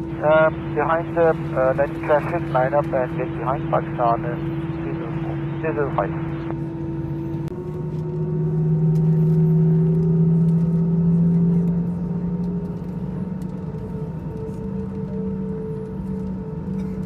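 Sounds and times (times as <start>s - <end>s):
jet engines humming: 0.0s - 17.0s.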